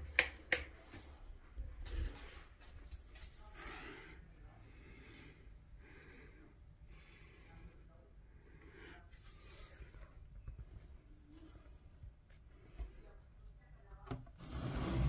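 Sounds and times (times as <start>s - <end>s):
soft breaths: 0.7s - 14.0s.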